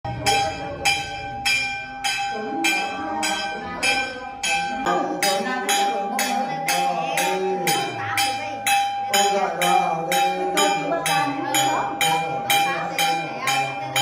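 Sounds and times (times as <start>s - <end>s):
person chanting: 2.1s - 14.0s.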